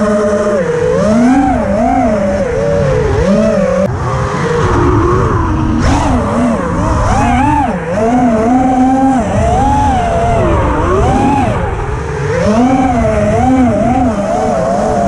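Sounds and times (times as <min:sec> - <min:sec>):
drone motors whining: 0:00.0 - 0:15.0
rushing noise: 0:00.6 - 0:15.0.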